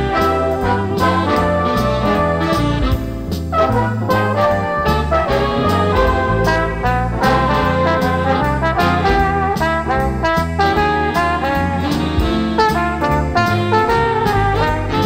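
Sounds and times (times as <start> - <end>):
upbeat jazz music with brass: 0.0 - 15.0.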